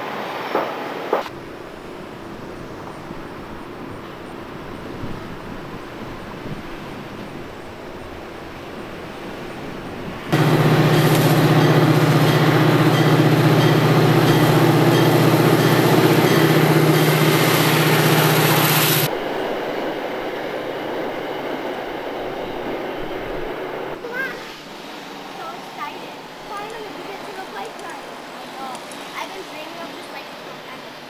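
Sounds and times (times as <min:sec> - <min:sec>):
passenger train rumbling: 0:00.0 - 0:31.0.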